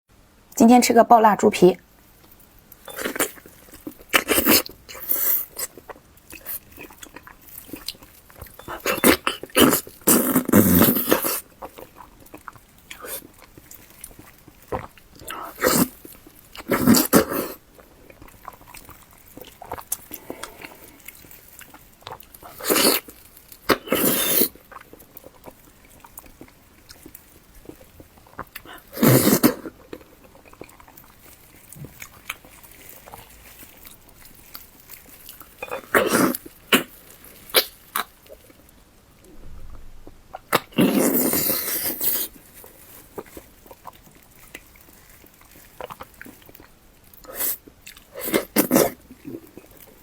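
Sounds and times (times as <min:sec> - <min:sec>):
person chewing wetly: 0:02.2 - 0:38.8, 0:40.3 - 0:50.0.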